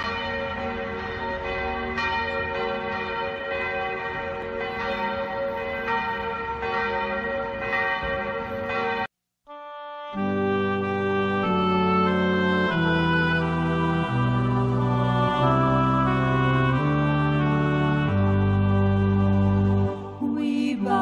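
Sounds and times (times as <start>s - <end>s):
church bells ringing: 0.0s - 9.1s, 10.2s - 20.2s.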